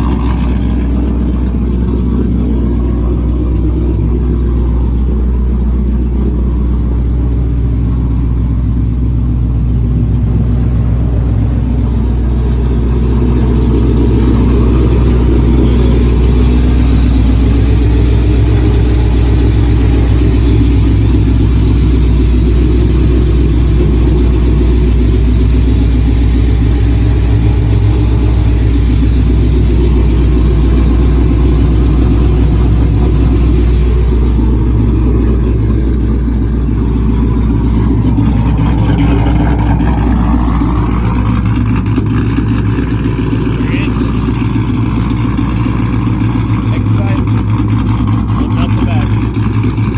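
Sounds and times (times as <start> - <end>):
loud deep engine exhaust idling: 0.0 - 49.9.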